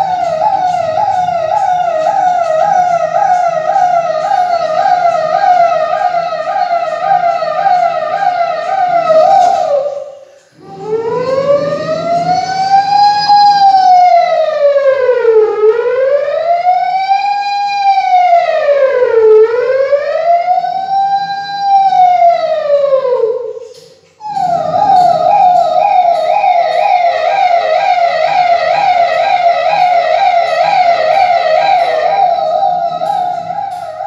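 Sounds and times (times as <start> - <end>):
man imitating a siren: 0.0 - 23.6, 24.2 - 34.0.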